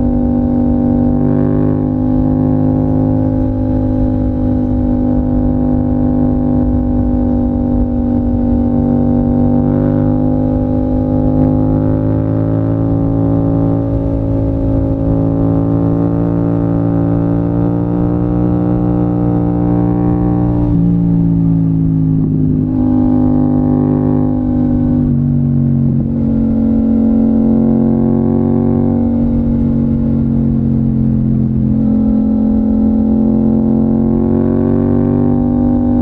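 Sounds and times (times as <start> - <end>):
motorcycle engine droning: 0.0 - 36.0.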